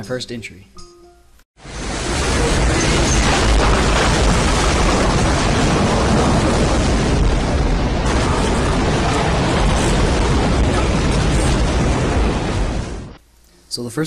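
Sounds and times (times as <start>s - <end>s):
tornado wind rushing: 1.6s - 13.2s
deep rumble: 1.7s - 13.2s.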